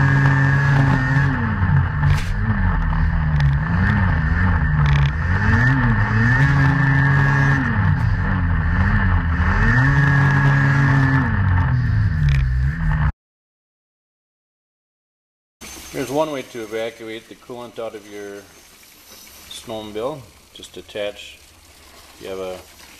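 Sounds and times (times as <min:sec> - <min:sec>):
snowmobile engine revving: 0:00.0 - 0:13.1, 0:15.9 - 0:21.3.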